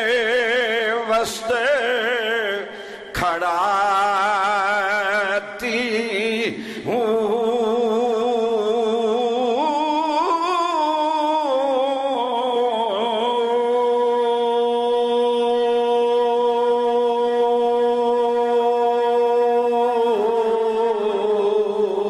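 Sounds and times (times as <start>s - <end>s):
man singing drawn-out verse: 0.0s - 22.0s.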